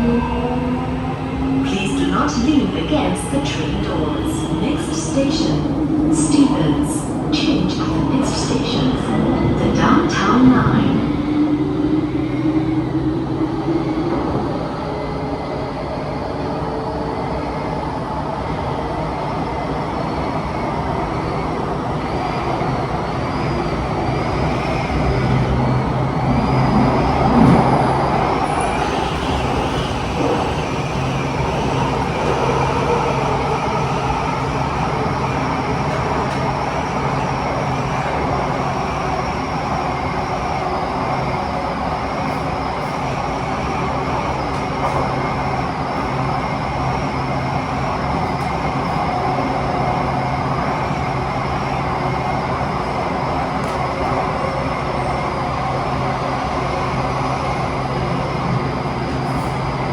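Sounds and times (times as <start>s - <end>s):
train rumbling in a tunnel: 0.0s - 59.9s.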